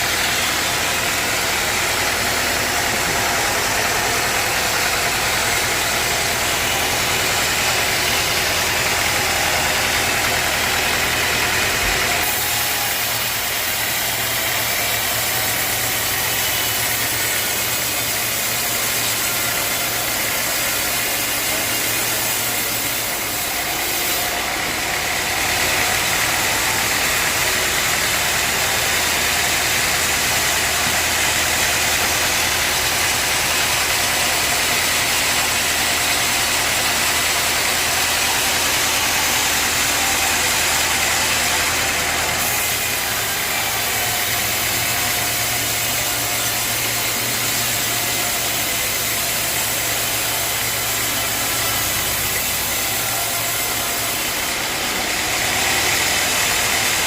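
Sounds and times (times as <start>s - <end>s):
sawmill motor hum: 0.0s - 57.0s.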